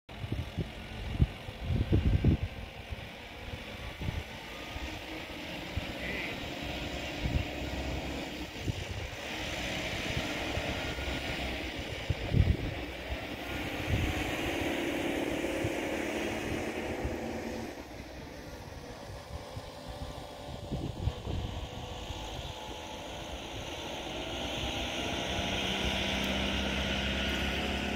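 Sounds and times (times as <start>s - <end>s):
electric train running past: 1.9s - 27.9s.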